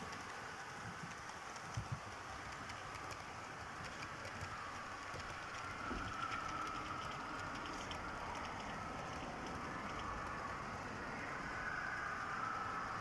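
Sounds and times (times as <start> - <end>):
model train motor whine: 0.0 - 13.0
wheels clicking over track: 0.0 - 13.0.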